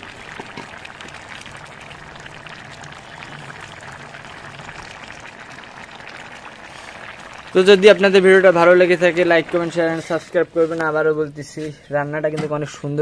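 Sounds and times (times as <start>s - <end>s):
curry bubbling at a boil: 0.0s - 11.9s.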